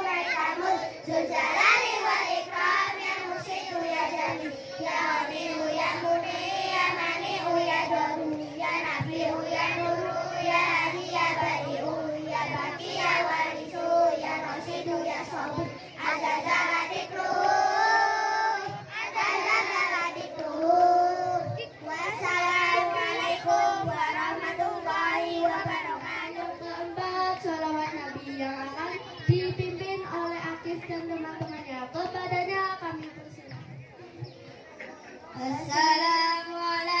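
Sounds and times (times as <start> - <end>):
girls singing a devotional song: 0.0 - 32.9, 35.4 - 37.0.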